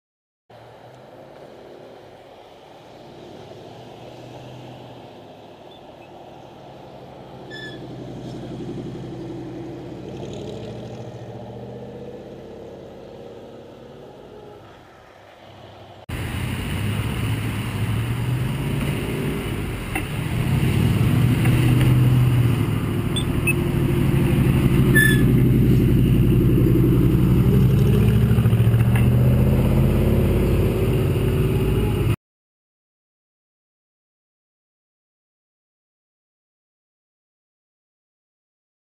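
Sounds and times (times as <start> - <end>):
cars passing by: 0.5 - 32.2.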